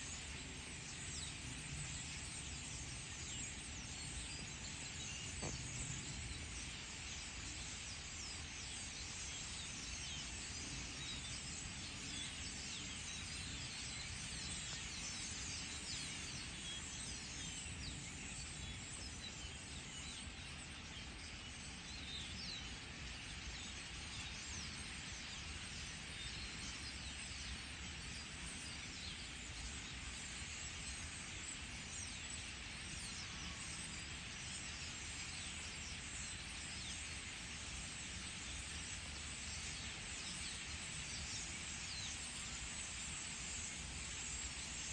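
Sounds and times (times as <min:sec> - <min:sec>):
flock of birds chirping: 0:00.0 - 0:44.9.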